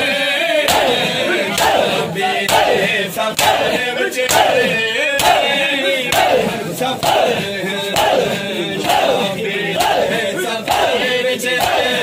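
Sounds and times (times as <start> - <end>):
crowd chanting: 0.0 - 12.0
men slapping chests in unison: 0.6 - 12.0.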